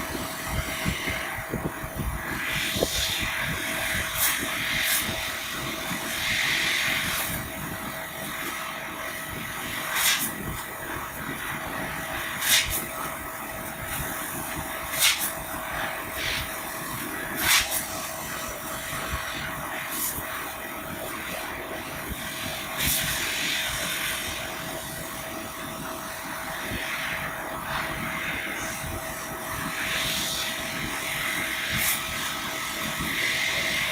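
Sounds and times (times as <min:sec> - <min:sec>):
laser cutter hiss and hum: 0:00.0 - 0:33.9.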